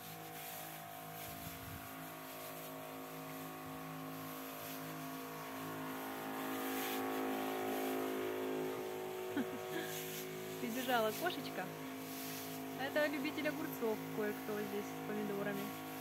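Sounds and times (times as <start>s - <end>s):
electric sprayer pump humming: 0.0s - 16.0s.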